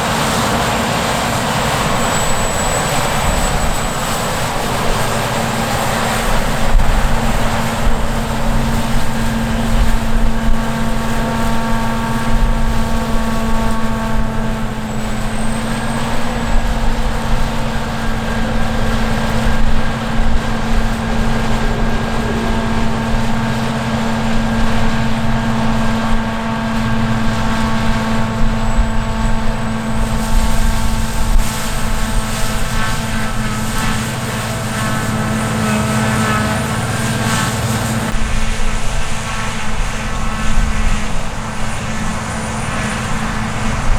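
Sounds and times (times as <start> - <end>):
harvest machinery running: 0.0 - 43.9
steady whining tones: 0.0 - 43.9
wind on the microphone: 1.5 - 43.9.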